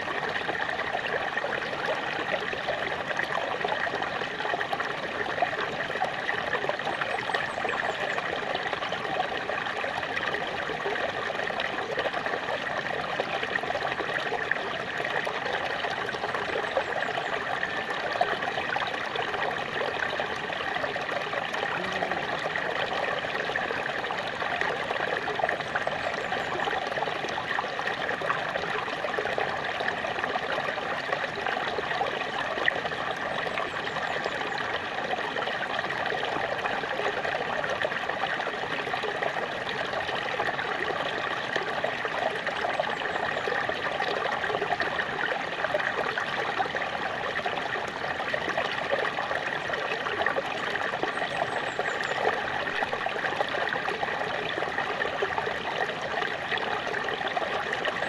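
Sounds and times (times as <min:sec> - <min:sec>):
small waterfall splashing over rocks: 0:00.0 - 0:58.0.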